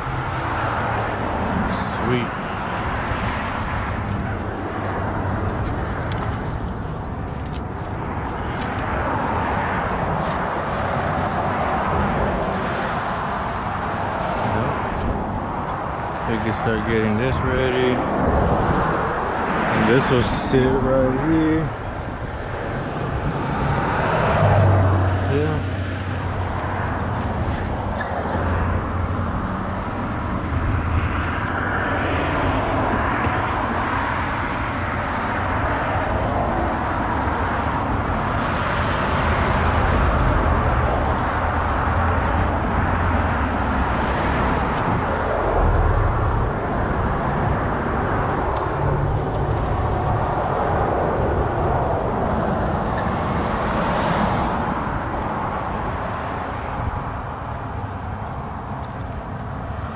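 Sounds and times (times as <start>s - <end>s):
road traffic noise: 0.0s - 59.9s
vehicles passing: 0.0s - 59.9s.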